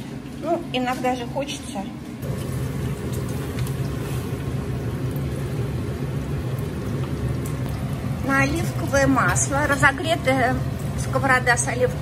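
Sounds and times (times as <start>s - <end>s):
oil sizzling: 2.2s - 12.0s.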